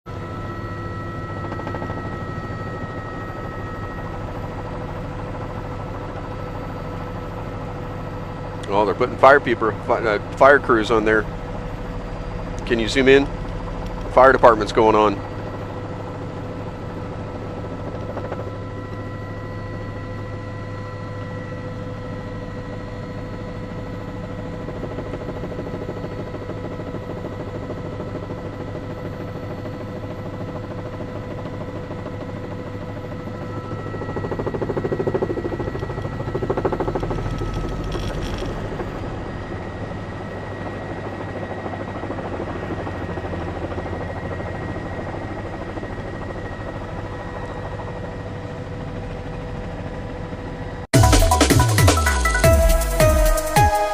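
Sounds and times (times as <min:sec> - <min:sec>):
helicopter engine and rotor drone: 0:00.1 - 0:53.9.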